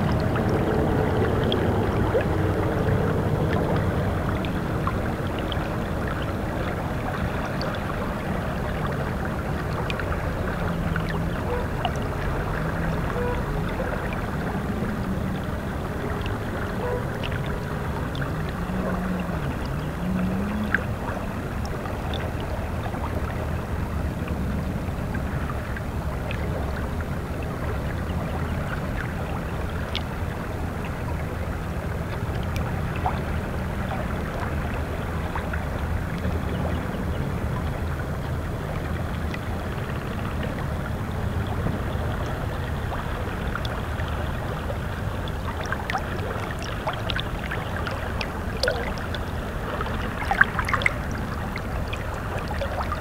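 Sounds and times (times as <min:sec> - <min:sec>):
river water lapping against rocks: 0:00.0 - 0:53.0
small water splashes: 0:00.0 - 0:53.0.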